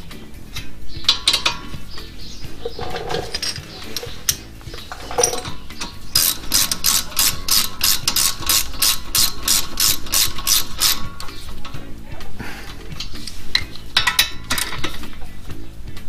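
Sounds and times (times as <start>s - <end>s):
hand ratchet clicking: 0.6s - 11.9s, 12.7s - 15.3s.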